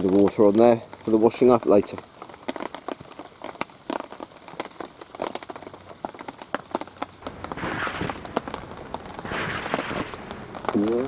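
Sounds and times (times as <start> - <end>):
heavy raindrops striking a surface: 0.0 - 11.0
hiss of rain: 0.0 - 11.0.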